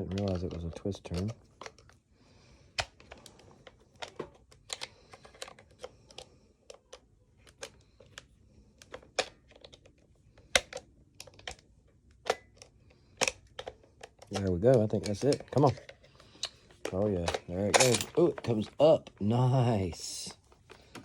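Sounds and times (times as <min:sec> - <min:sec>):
plastic and metal parts clicking: 0:00.0 - 0:02.0, 0:02.6 - 0:21.0.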